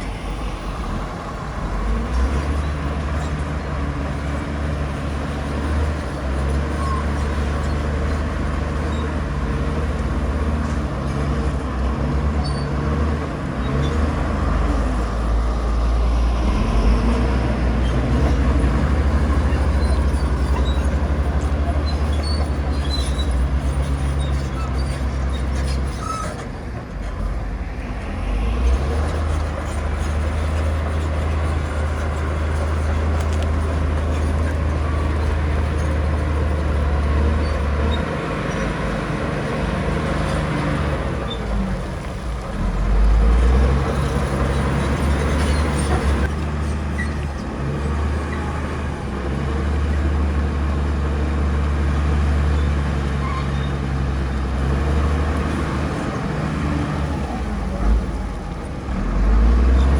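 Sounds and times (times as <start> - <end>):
heavy diesel machinery engine drone: 0.0 - 59.9.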